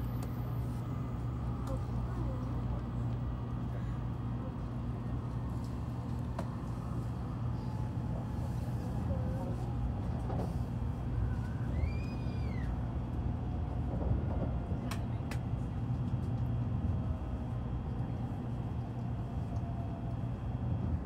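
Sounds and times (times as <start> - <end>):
train cabin rumble: 0.0 - 21.0.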